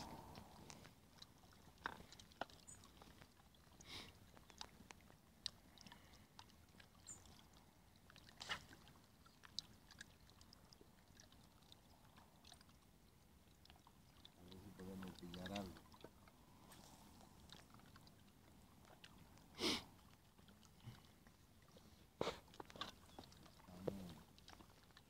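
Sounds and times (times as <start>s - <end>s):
faint clicks and ticks: 0.0s - 21.8s, 22.4s - 25.0s.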